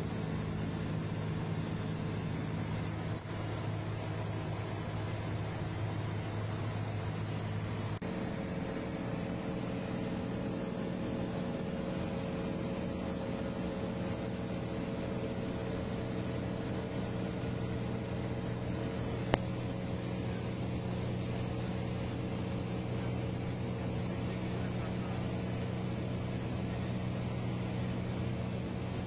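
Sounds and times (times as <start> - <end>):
airplane engine and propeller droning: 0.0 - 29.0.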